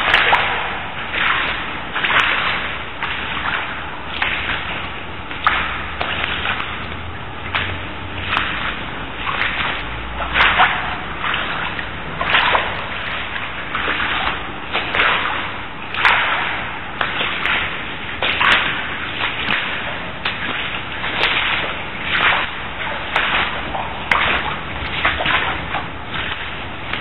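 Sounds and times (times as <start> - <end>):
footsteps swishing through water: 0.0 - 27.0.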